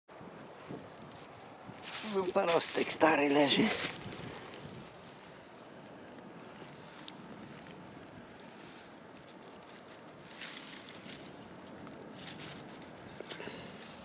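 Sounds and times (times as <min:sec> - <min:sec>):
dry leaves and twigs rustling: 0:00.2 - 0:14.0
sharp crackle: 0:00.9 - 0:14.0.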